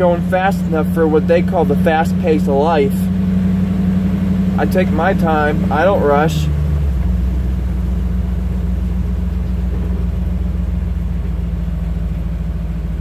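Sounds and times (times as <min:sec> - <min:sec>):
car interior engine and road hum: 0:00.0 - 0:13.0.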